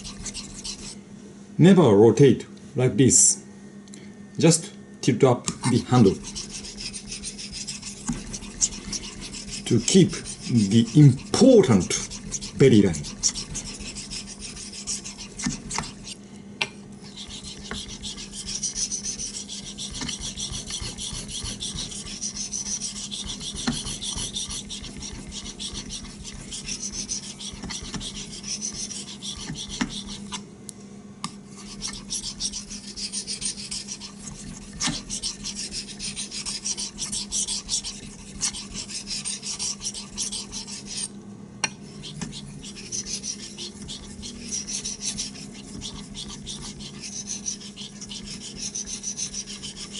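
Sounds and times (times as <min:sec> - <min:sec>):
knife scraping on whetstone: 0:00.0 - 0:01.0, 0:05.5 - 0:16.2, 0:17.0 - 0:30.4, 0:31.5 - 0:41.1, 0:41.8 - 0:49.9.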